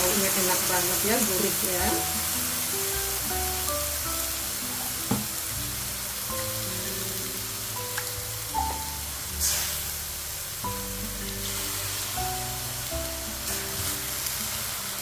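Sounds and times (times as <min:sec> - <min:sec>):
food sizzling in a wok: 0:00.0 - 0:15.0
soft background music: 0:00.0 - 0:15.0.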